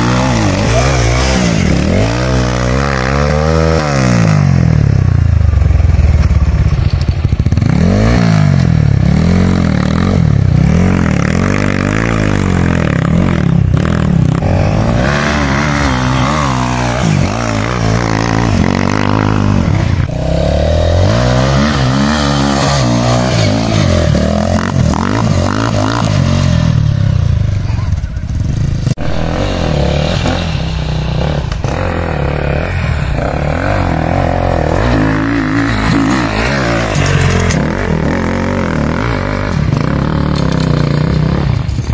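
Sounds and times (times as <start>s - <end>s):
dirt bike engines revving: 0.0s - 41.9s.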